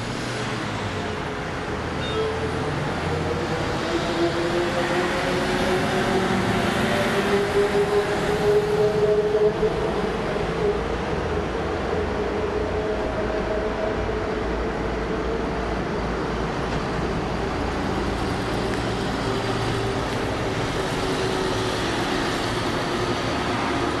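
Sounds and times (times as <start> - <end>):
distant jet engines roaring: 0.0 - 24.0.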